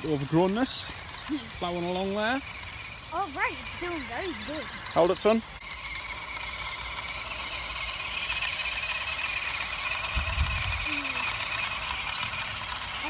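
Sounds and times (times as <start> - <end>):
toy truck motor whining: 0.0 - 13.0.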